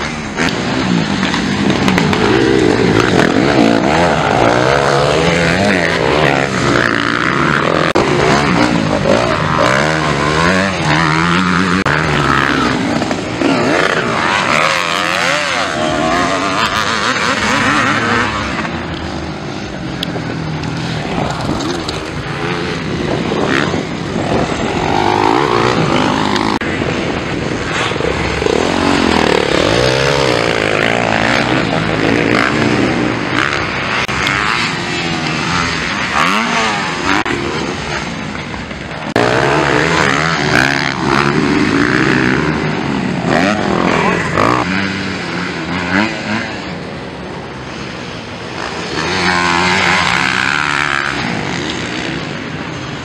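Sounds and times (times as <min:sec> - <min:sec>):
motocross bike engines revving: 0:00.0 - 0:53.0.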